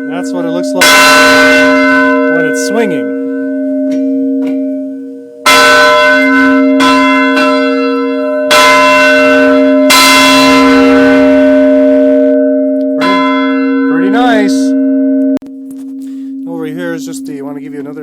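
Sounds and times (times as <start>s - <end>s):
church bell ringing: 0.0s - 18.0s.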